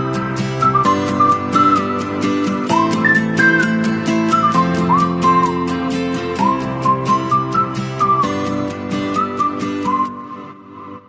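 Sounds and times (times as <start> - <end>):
whistled melody music with beat: 0.0 - 11.0.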